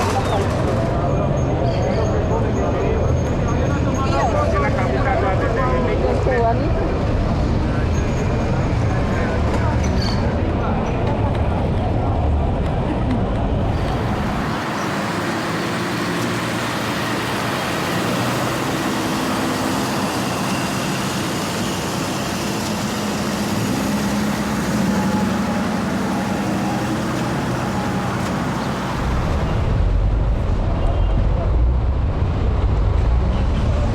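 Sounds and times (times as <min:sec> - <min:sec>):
city street traffic: 0:00.0 - 0:33.9
low engine hum: 0:04.4 - 0:33.9.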